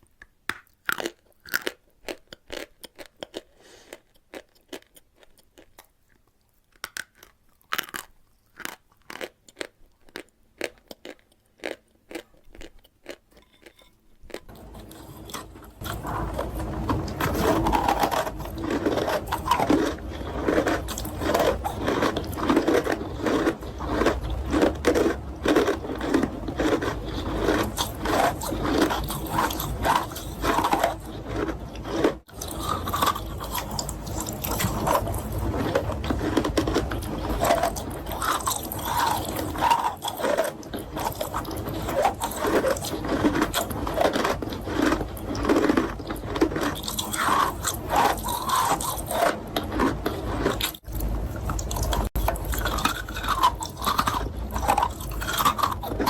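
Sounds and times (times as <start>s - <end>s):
chewing chalk crunching: 0.6s - 56.0s.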